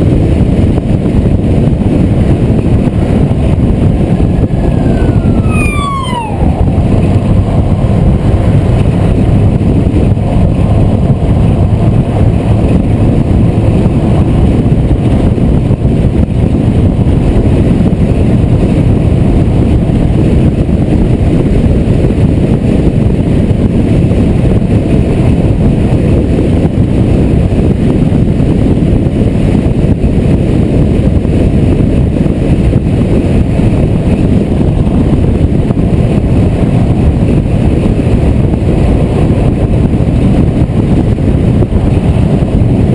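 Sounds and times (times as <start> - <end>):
wind and tyre noise: 0.0 - 42.9.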